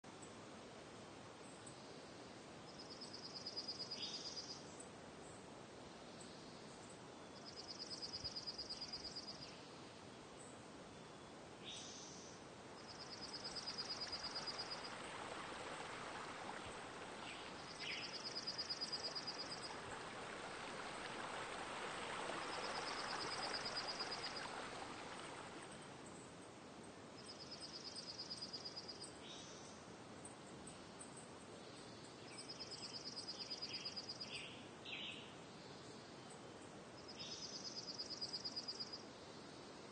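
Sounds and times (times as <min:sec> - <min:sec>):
soft steady rushing noise: 0:00.1 - 0:33.5.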